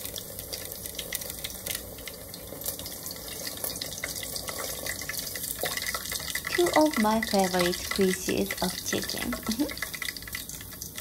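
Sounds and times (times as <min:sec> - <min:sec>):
food sizzling in deep oil: 0:00.0 - 0:11.0.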